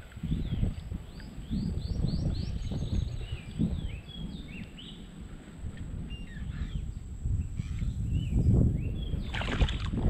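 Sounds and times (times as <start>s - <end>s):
wind rumble on microphone: 0.0s - 10.0s
birds whistling calls: 0.2s - 5.1s, 6.0s - 9.6s.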